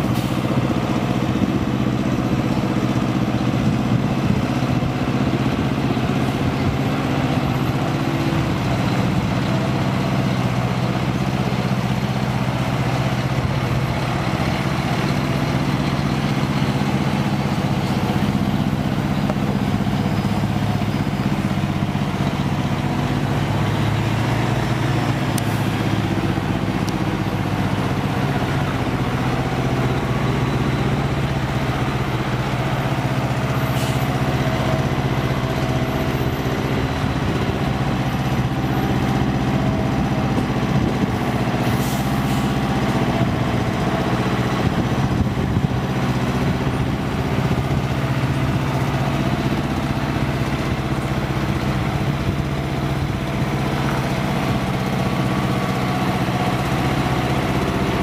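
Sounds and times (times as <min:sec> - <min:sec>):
diesel engine running at low revs: 0:00.0 - 0:58.0.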